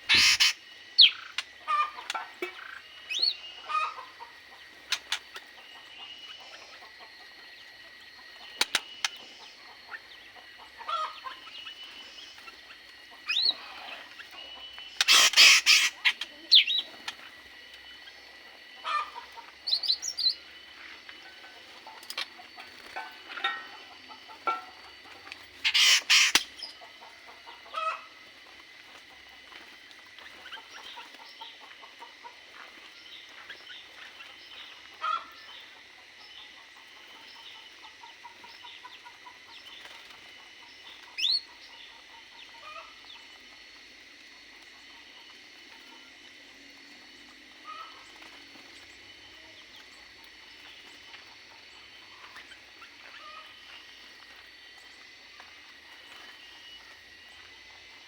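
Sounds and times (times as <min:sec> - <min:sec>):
chickens clucking: 0:00.0 - 0:58.0
faint high whine: 0:00.0 - 0:58.0.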